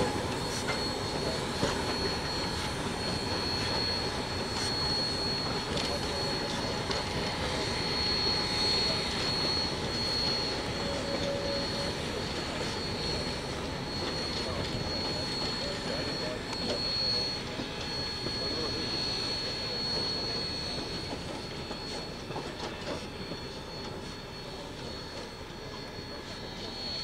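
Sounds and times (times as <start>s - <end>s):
steam train rolling on track: 0.0s - 27.0s
thin high whine: 0.0s - 27.0s.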